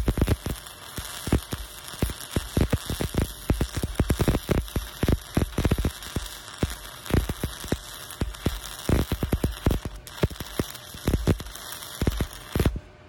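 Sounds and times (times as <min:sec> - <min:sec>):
welding arc crackling hiss: 0:00.0 - 0:12.9
welding arc sharp pops: 0:00.0 - 0:12.9.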